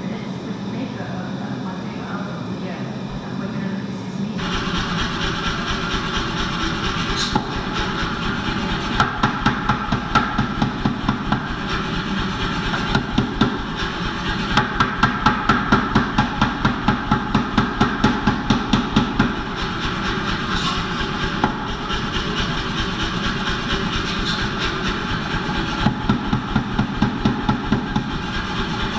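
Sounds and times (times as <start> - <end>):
steady mechanical hum: 0.0 - 28.9
power hammer striking metal: 4.4 - 28.9.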